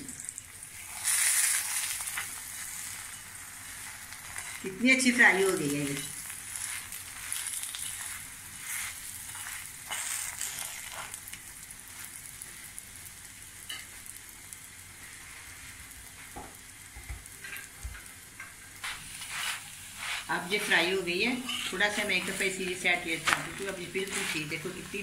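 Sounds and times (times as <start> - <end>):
flatbread sizzling in ghee: 0.0 - 25.0.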